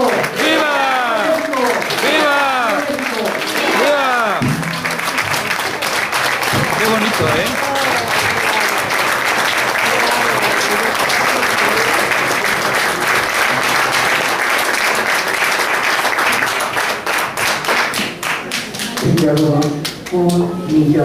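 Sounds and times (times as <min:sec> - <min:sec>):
audience applauding: 0:00.0 - 0:20.4.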